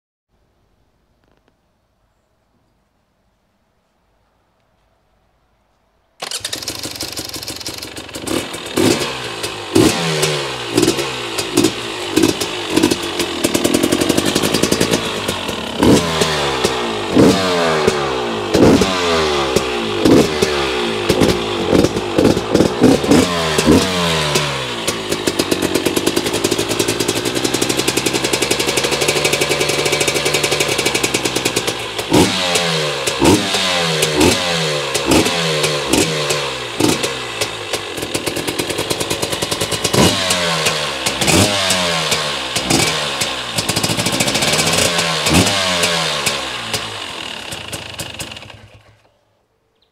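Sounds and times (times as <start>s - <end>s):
two-stroke engine revving: 6.2s - 49.1s.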